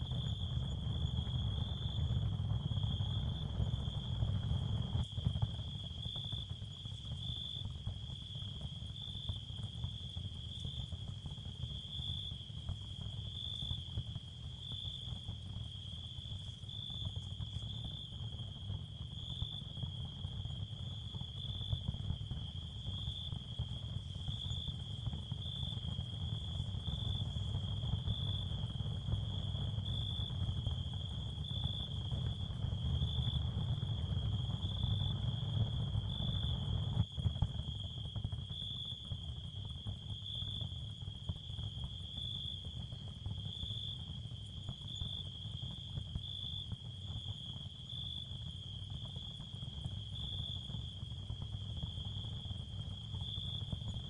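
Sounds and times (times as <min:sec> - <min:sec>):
constant low rumble: 0:00.0 - 0:54.0
pulsing cricket-like chirring: 0:00.0 - 0:54.0.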